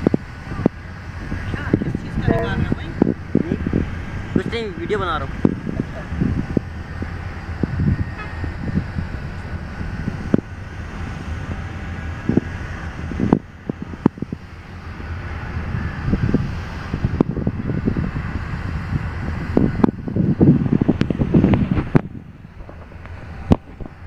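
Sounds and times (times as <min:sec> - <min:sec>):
locomotive idling hum: 0:00.0 - 0:24.0
wind buffeting microphone: 0:00.0 - 0:24.0.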